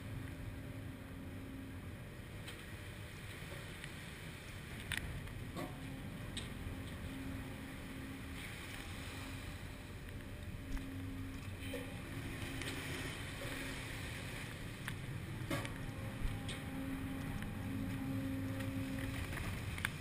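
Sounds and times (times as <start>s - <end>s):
seawater rushing across deck: 0.0s - 20.0s
ship machinery hum: 0.0s - 20.0s.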